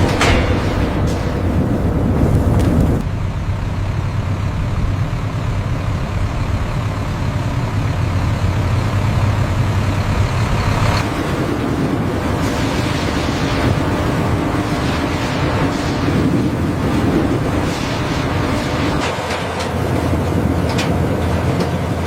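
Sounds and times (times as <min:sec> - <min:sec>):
heavy engine rumbling: 0:00.0 - 0:22.0.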